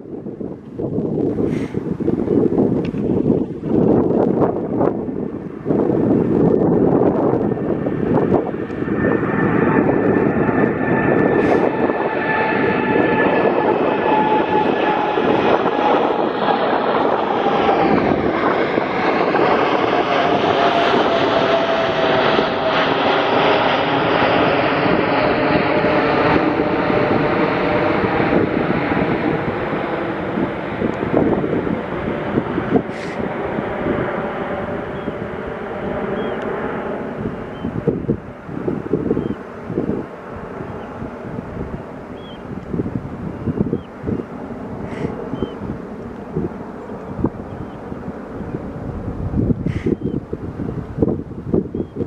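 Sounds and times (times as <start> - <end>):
jet engine roar: 0.0 - 52.0.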